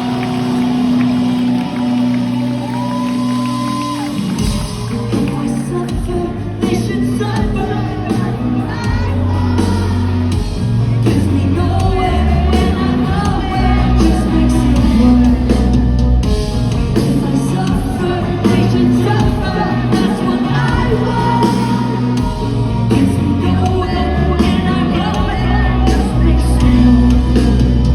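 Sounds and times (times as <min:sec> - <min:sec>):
live rock band playing: 0:00.0 - 0:27.9
person singing: 0:04.8 - 0:27.9.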